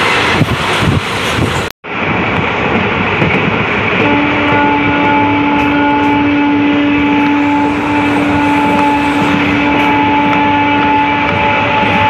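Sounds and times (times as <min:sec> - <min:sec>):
train wheels and air rumbling: 0:00.0 - 0:12.0.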